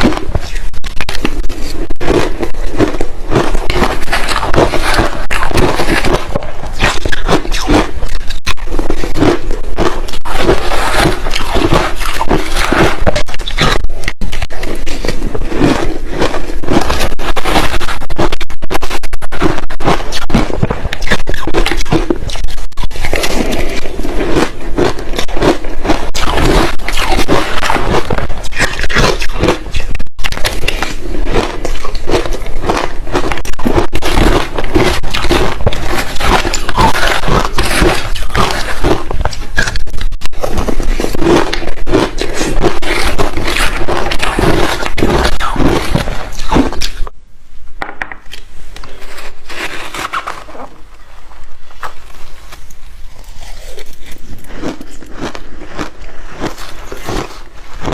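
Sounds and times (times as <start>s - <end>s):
chewing crushed ice: 0.0s - 47.1s, 48.3s - 57.9s.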